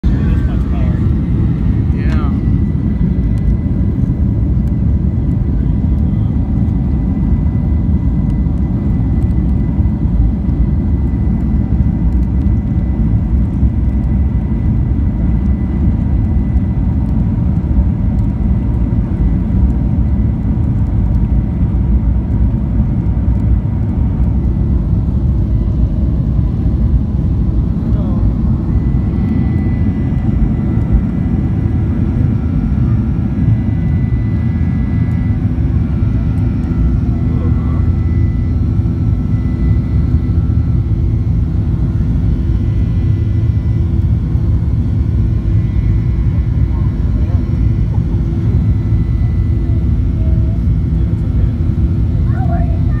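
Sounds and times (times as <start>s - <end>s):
jet engine rumble in cabin: 0.0s - 53.0s.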